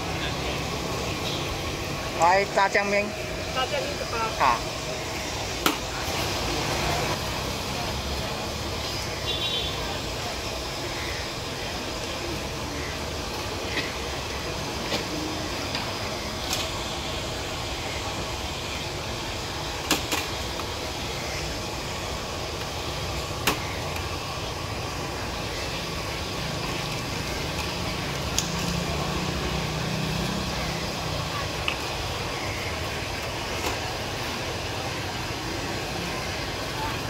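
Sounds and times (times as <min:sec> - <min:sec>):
steady background noise: 0:00.0 - 0:37.0.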